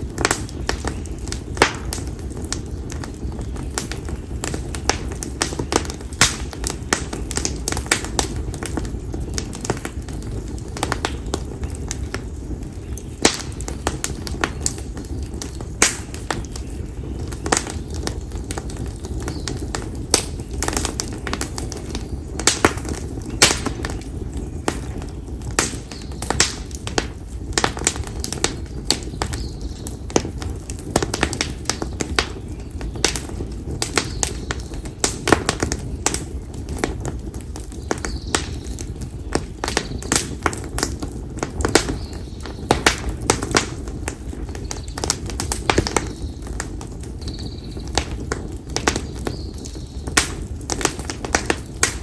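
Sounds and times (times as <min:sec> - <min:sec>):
bonfire crackling and popping: 0:00.0 - 0:52.0
low rumble of flames: 0:00.0 - 0:52.0.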